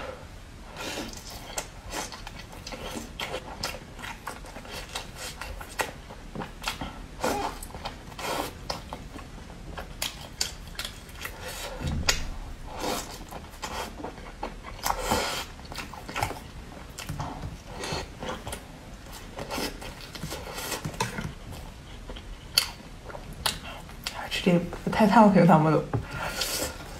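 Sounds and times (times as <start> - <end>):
wet chewing and biting: 1.0 - 24.2.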